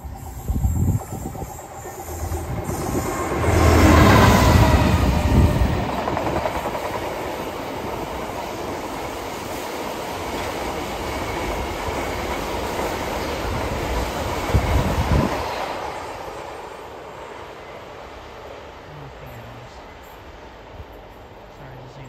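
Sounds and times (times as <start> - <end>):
locomotive passing: 0.0 - 22.0.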